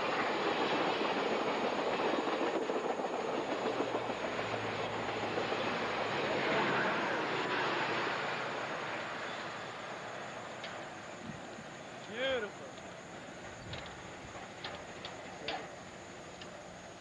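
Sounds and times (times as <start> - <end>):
train cars rolling past: 0.0 - 17.0.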